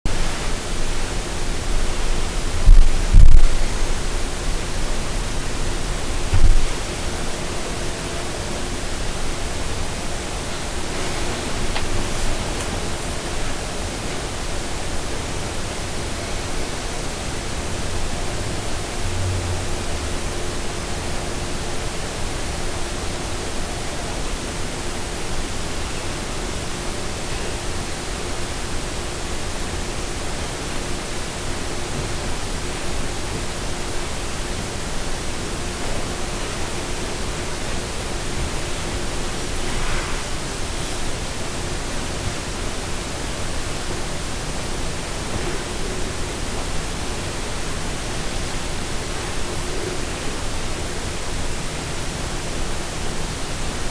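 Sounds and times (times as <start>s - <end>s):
static-like hiss: 0.1s - 53.9s.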